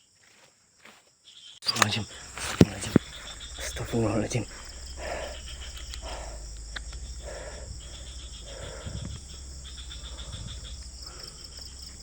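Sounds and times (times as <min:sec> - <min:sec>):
crickets trilling: 0:00.0 - 0:12.0
lower soft insect calls: 0:00.0 - 0:12.0.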